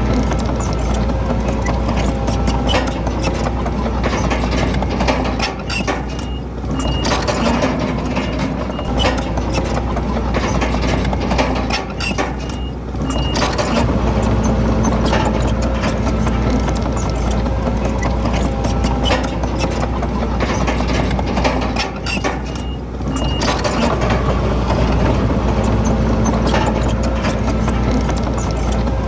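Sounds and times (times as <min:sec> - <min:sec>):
bulldozer diesel engine under load: 0:00.0 - 0:29.0
steel tracks clanking: 0:00.0 - 0:29.0.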